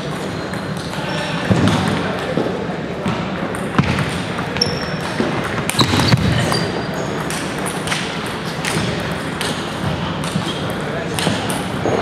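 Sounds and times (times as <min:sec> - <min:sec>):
murmur of busy hall: 0:00.0 - 0:12.0.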